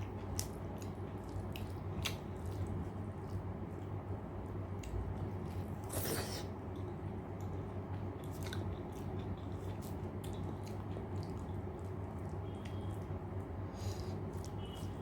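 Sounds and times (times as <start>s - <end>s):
person chewing: 0.0s - 3.5s, 4.7s - 13.1s, 13.7s - 15.0s.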